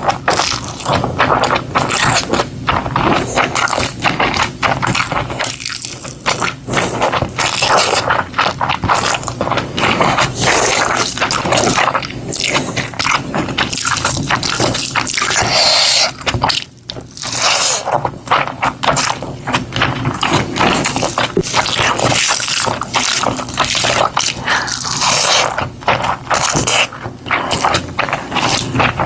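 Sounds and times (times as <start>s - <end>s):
wet chewing and squishing: 0.0s - 29.0s.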